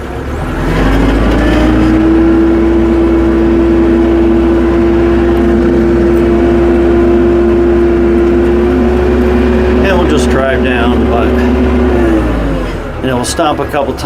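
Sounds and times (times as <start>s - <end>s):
tractor engine at high revs: 0.0s - 14.0s.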